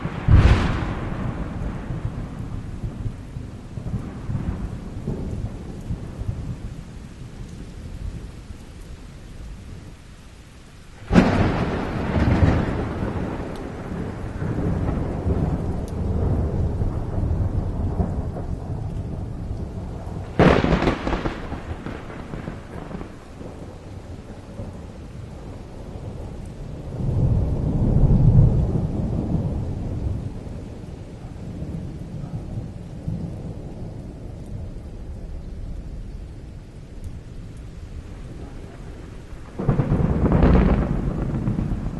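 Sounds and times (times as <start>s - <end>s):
thunderclaps: 0.0s - 8.5s, 11.0s - 41.9s
low thunder rumbling: 0.0s - 10.0s, 10.9s - 41.9s
steady rain: 0.0s - 41.9s.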